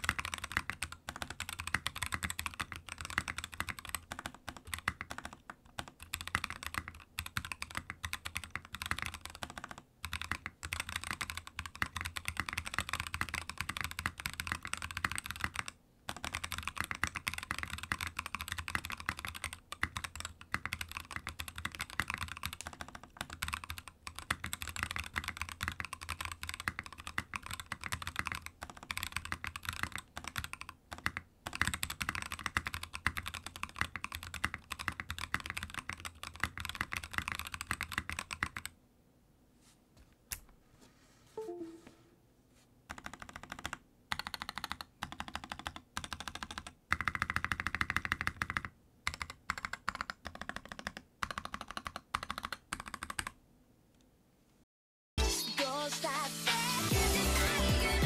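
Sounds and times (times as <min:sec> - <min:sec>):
fast typing on mechanical keyboard: 0:00.0 - 0:38.8, 0:42.9 - 0:53.4.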